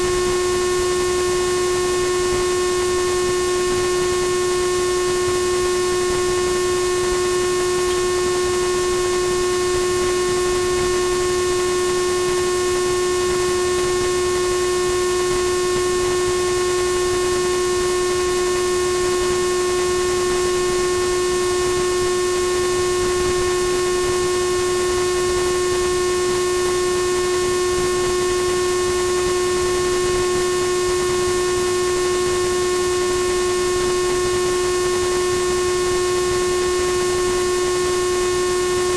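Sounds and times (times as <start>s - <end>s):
steady droning tone: 0.0s - 38.9s.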